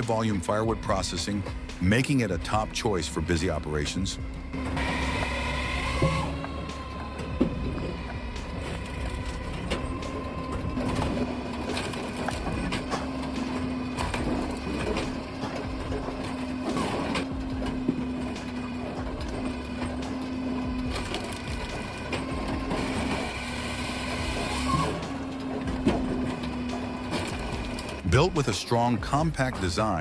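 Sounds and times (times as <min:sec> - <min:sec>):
firewood processor engine hum: 0:00.0 - 0:30.0
wood being cut and split: 0:00.0 - 0:30.0.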